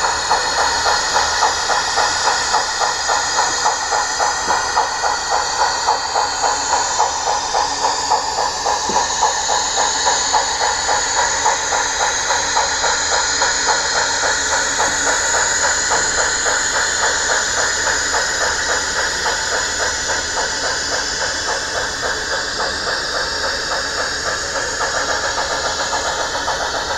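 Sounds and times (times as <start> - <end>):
steam locomotive exhaust chuffs: 0.0 - 26.9.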